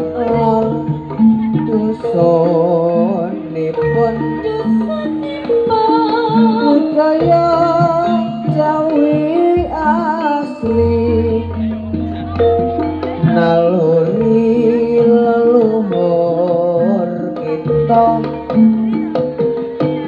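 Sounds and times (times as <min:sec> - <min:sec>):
person singing long wavering notes: 0:00.0 - 0:20.0
stepped instrumental melody: 0:00.0 - 0:20.0.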